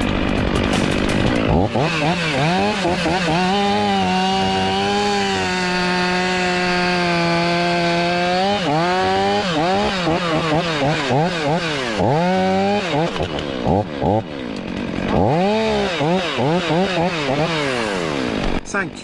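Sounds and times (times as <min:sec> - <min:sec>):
chainsaw revving: 0:00.0 - 0:18.7.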